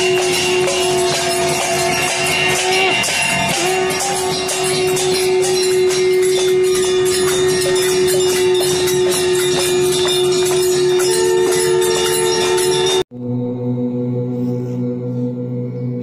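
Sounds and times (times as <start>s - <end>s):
steady low tone: 0.0s - 16.0s.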